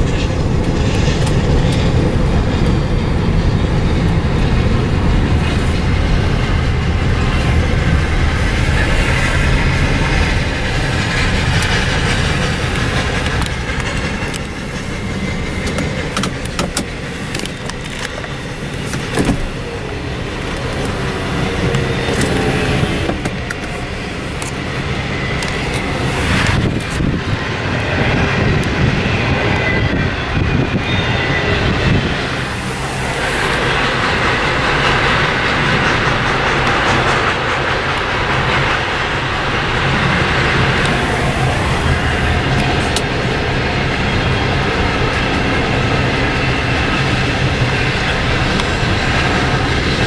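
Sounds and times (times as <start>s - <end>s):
freight train rumbling past: 0.0s - 50.0s
wheels clattering on rails: 0.0s - 50.0s.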